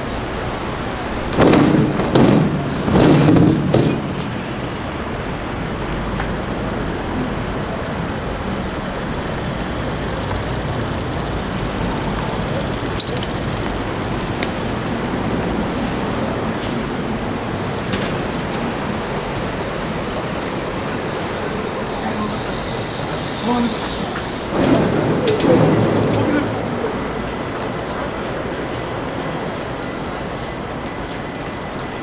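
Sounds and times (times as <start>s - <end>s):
traffic hum: 0.0s - 32.0s.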